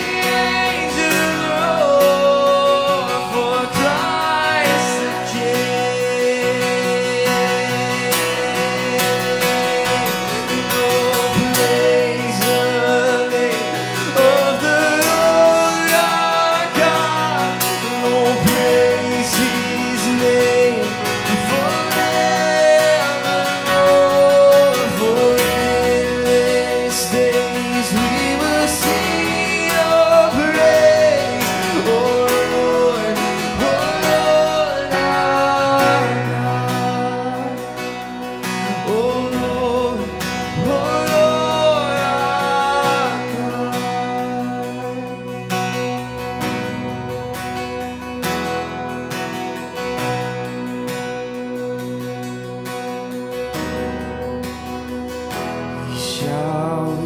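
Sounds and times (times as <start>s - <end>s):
person singing: 0.0s - 48.5s, 55.8s - 57.0s
strummed acoustic guitar: 0.0s - 57.0s.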